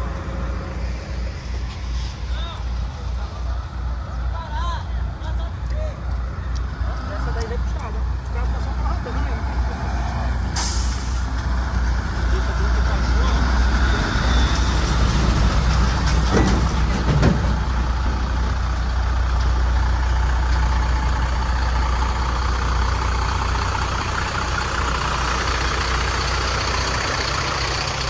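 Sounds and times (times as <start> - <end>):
heavy vehicle engine idling: 0.0 - 28.0.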